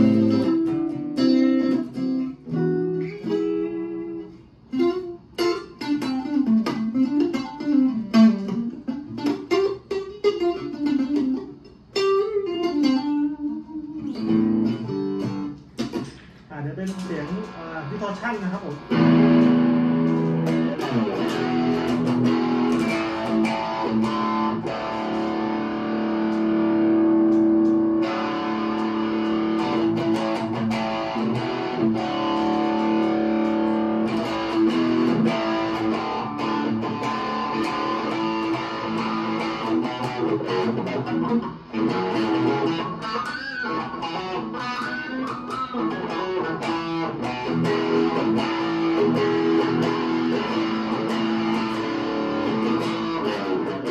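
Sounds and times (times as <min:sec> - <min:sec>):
electric guitar playing: 0:00.0 - 0:53.9.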